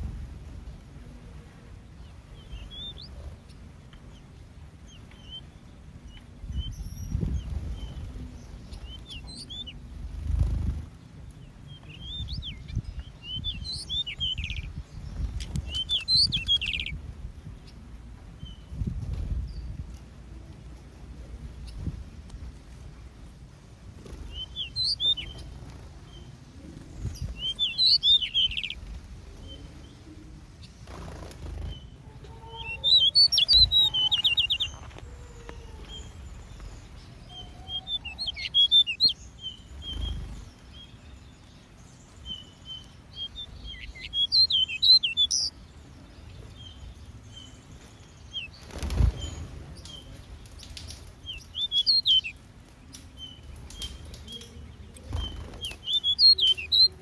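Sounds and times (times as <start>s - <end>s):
small birds twittering: 0.0s - 57.0s.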